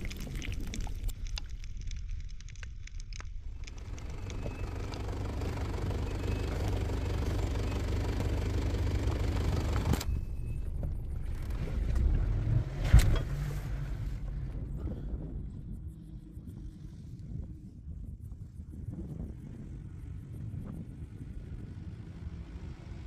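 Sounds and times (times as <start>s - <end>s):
off-road vehicle engine rumble: 0.0s - 23.0s.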